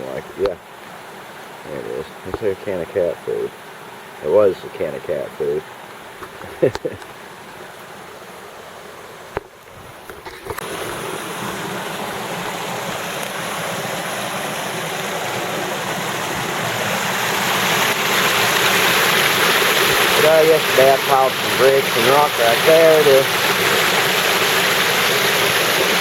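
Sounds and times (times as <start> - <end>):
creek water rushing over dam: 0.0 - 26.0.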